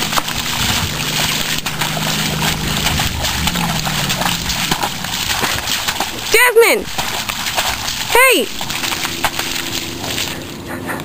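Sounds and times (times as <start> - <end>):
hoof splashing in mud: 0.0 - 11.0
low steady hum: 0.0 - 11.0.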